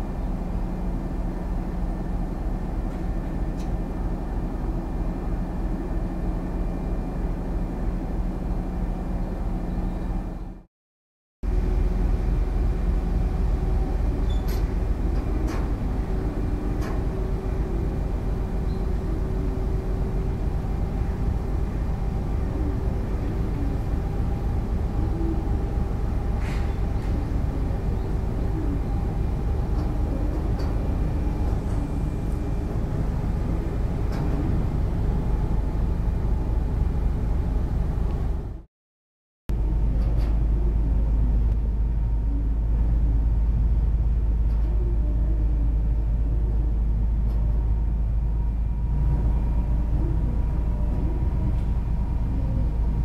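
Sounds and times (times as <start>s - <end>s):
ship engines rumbling: 0.0s - 10.6s, 11.5s - 38.6s, 39.5s - 53.0s.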